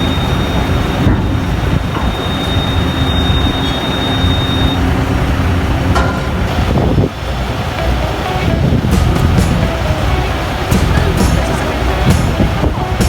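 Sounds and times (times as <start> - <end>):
vehicle running rumble: 0.6 - 13.0.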